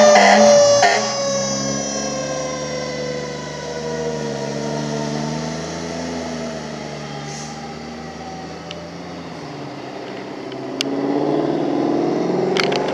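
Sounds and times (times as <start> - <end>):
approaching vehicle engine and tyres: 0.0 - 12.9
diesel truck engine driving away: 0.0 - 12.9.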